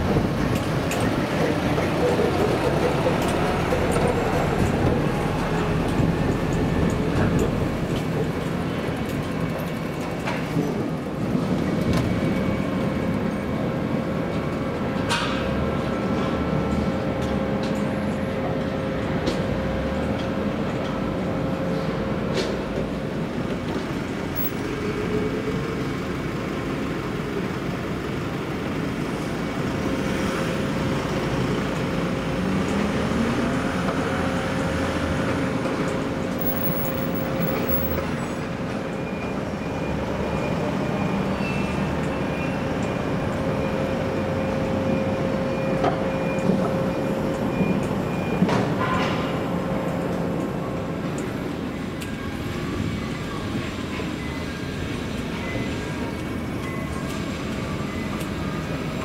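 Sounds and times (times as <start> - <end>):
heavy vehicle engine hum: 0.0 - 59.0.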